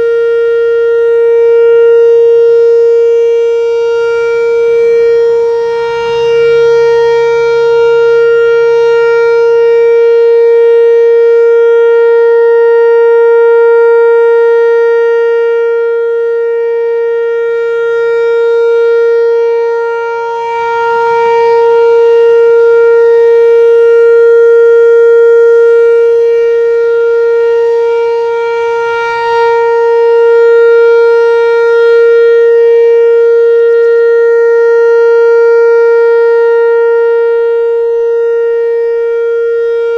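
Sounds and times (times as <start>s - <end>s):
steady electronic warning siren: 0.0s - 39.9s.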